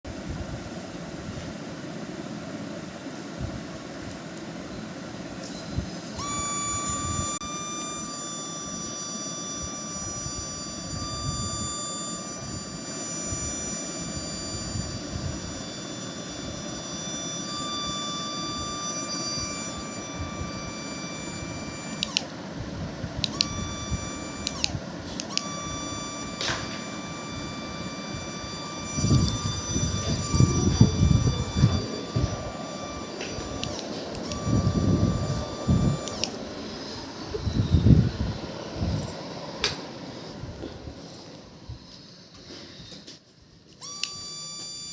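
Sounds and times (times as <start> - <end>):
toy high whine: 5.4 - 44.9.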